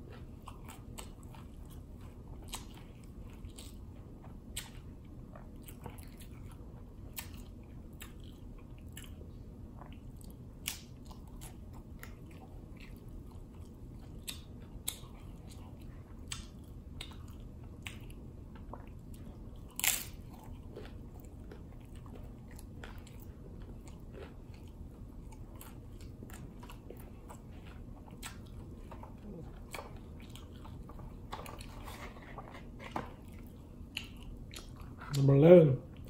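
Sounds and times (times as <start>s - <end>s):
chewing crunchy taco: 0.0s - 36.0s.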